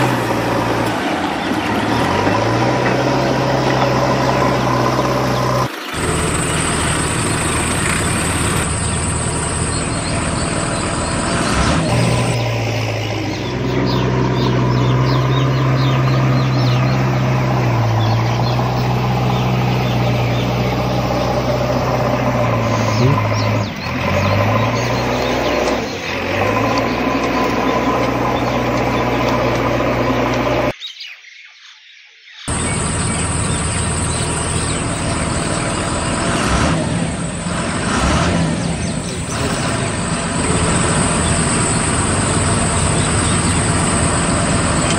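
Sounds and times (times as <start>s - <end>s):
heavy truck engines running: 0.0s - 30.8s, 32.5s - 44.9s.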